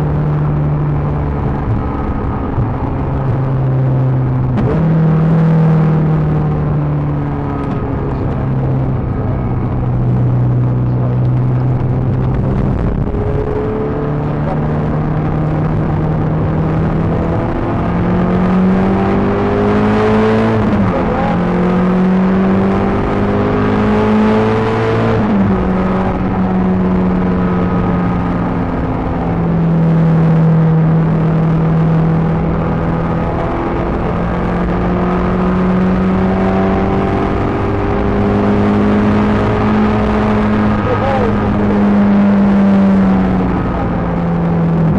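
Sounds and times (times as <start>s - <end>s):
car engine running hard: 0.0s - 44.9s.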